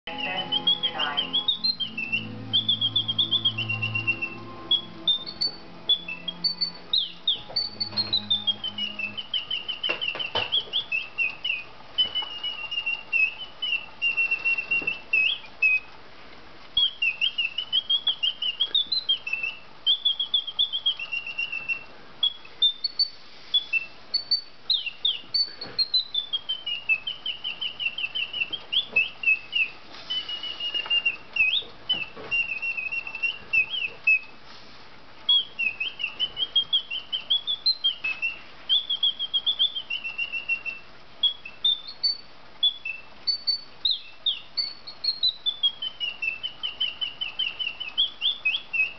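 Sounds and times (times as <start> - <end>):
mechanical bird whistling: 0.1 - 15.9, 16.8 - 34.3, 35.3 - 48.9.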